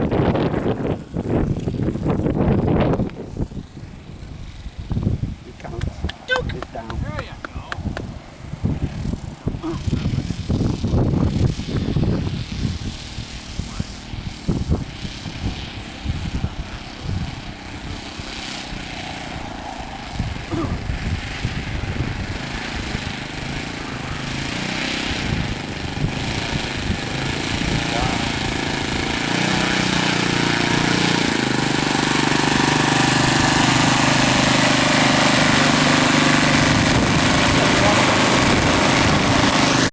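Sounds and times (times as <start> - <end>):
model airplane engine and propeller: 0.0 - 39.9
wind gusting against microphone: 0.0 - 39.9.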